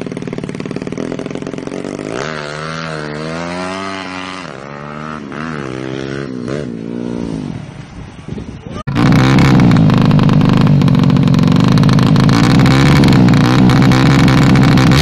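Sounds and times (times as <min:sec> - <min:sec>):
motorcycle engine revving: 0:00.0 - 0:07.9, 0:08.8 - 0:15.0.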